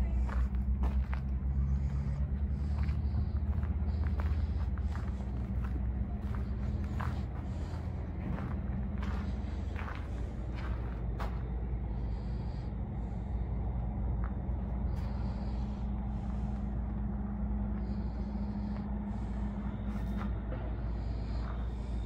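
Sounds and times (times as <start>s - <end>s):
engine rumbling and humming: 0.0s - 22.0s.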